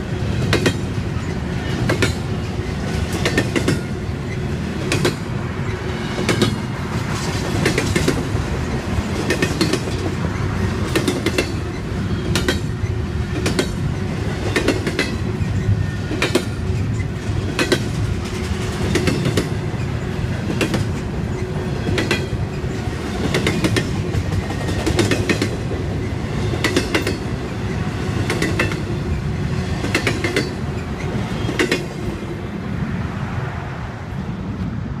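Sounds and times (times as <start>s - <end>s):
freight train wheels clacking: 0.0s - 32.4s
train rumble: 0.0s - 35.0s.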